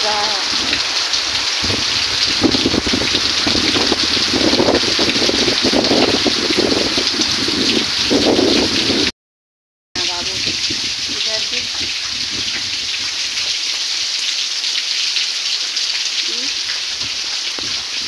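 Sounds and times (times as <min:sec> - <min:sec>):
heavy rain on wet ground: 0:00.0 - 0:09.1, 0:10.0 - 0:18.0.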